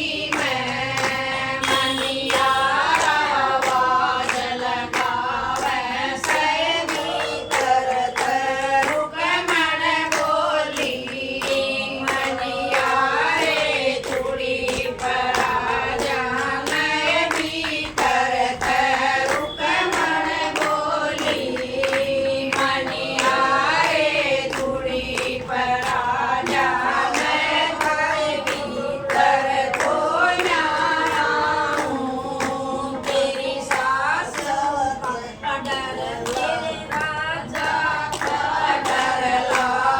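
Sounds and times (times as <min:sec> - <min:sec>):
hand claps: 0:00.0 - 0:39.9
women singing in chorus: 0:00.0 - 0:39.9.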